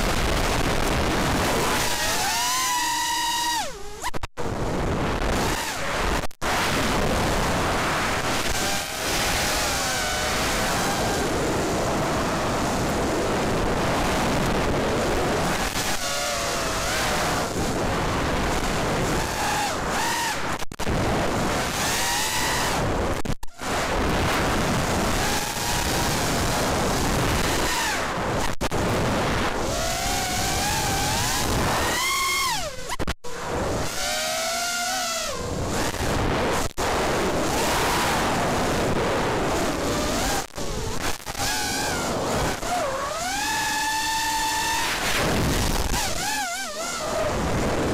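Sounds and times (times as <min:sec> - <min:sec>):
drone motors whining: 0:00.0 - 0:06.3, 0:06.9 - 0:20.9, 0:21.6 - 0:23.9, 0:24.5 - 0:47.9
heavy wind rush: 0:04.4 - 0:34.0, 0:35.3 - 0:47.9.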